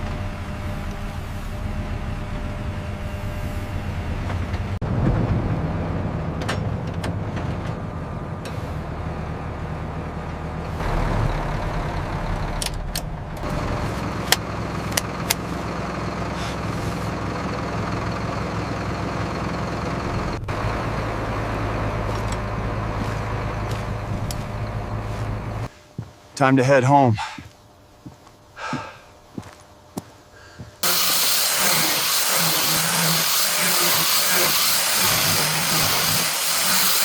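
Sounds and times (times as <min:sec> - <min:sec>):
large engine running: 0:00.0 - 0:25.7, 0:30.8 - 0:37.0.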